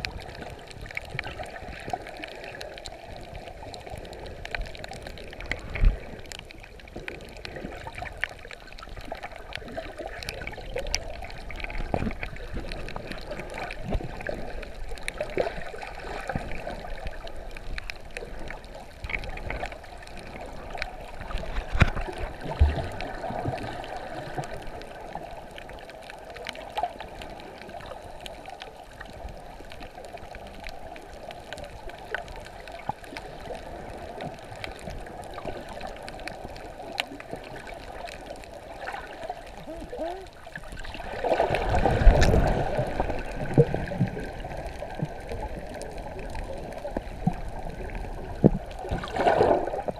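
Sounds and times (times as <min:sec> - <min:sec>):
muffled underwater noise: 0:00.0 - 0:49.9
sharp clicks underwater: 0:00.0 - 0:49.9.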